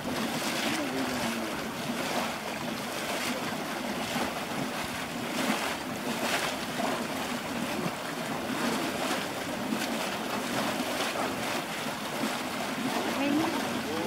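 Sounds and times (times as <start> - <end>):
geyser water gushing: 0.0 - 14.0.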